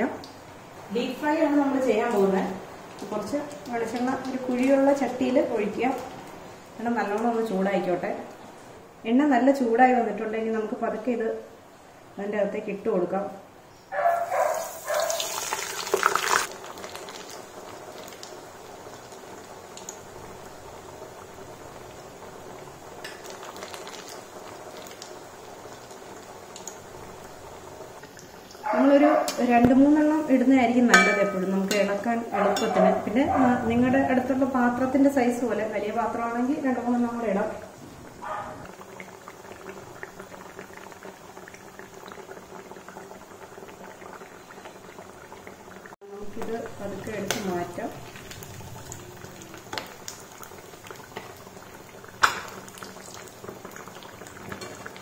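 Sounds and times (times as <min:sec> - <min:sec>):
cutlet deep-frying sizzle: 0:00.0 - 0:08.5, 0:13.7 - 0:33.2, 0:33.9 - 0:55.0.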